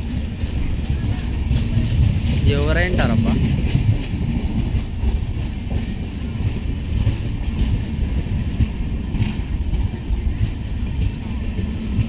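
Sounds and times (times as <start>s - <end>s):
train coaches rolling past: 0.0s - 12.0s
wheels clicking over rail joints: 0.0s - 12.0s.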